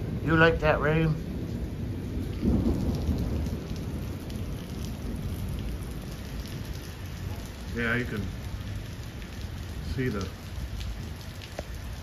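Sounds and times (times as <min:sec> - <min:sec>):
low rumble of thunder: 0:00.0 - 0:12.0
steady rain falling: 0:00.0 - 0:12.0.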